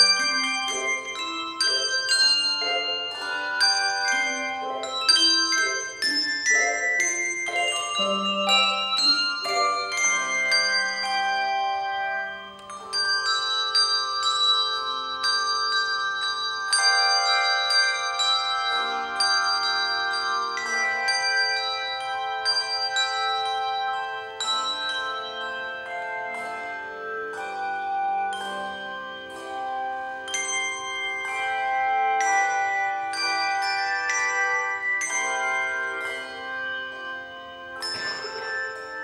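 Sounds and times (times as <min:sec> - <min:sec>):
handbells ringing in chords: 0:00.0 - 0:39.0.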